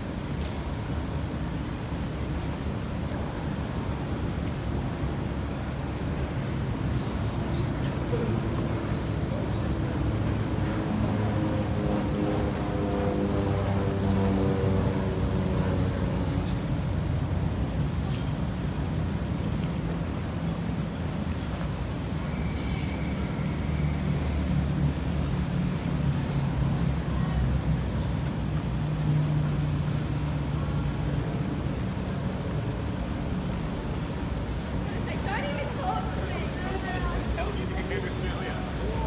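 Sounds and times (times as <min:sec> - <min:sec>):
background wash noise: 0:00.0 - 0:39.0.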